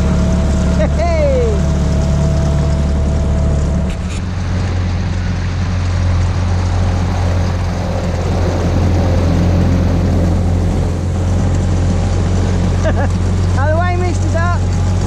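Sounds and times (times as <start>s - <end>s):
outboard motor running: 0.0s - 15.0s
water: 0.0s - 15.0s.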